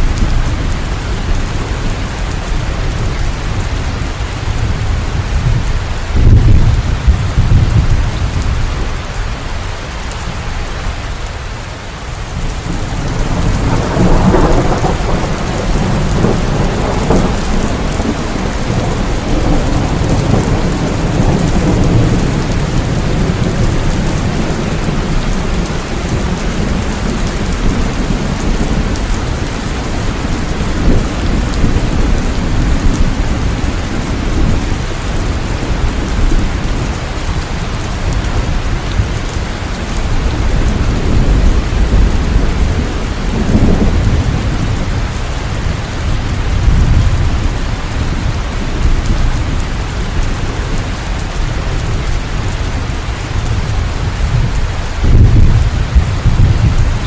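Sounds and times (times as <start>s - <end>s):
rolling thunder: 0.0s - 9.2s, 12.3s - 57.0s
heavy rain: 0.0s - 57.0s.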